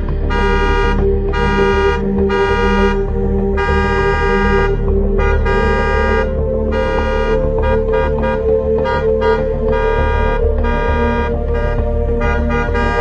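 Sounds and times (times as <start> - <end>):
car horn honks: 0.3 - 13.0.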